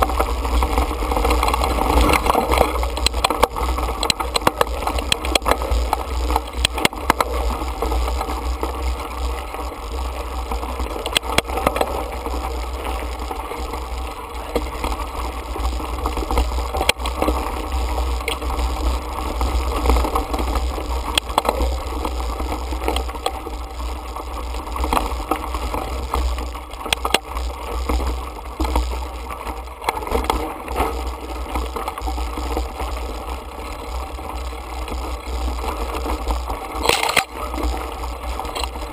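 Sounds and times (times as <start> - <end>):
bike rolling over rocky trail: 0.0 - 38.9
rattling and clicking of bike: 0.0 - 38.9.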